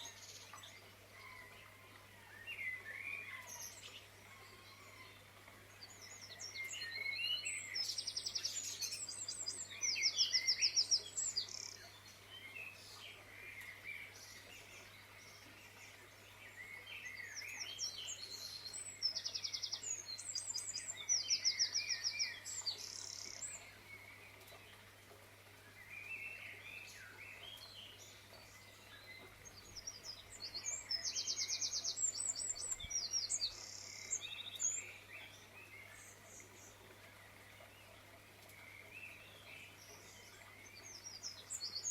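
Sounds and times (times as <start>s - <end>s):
songbirds singing and chirping: 0.0s - 41.9s.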